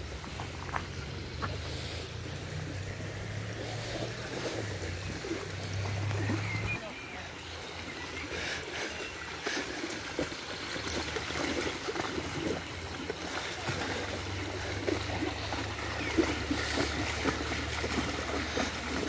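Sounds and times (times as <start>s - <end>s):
dogs splashing through water: 0.0s - 19.0s
stream running: 0.0s - 19.0s.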